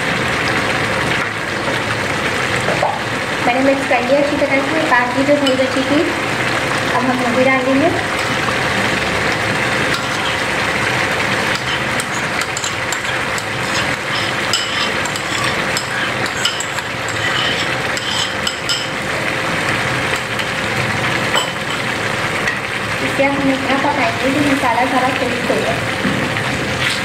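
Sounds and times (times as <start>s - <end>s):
curry sizzling in a wok: 0.0s - 27.0s.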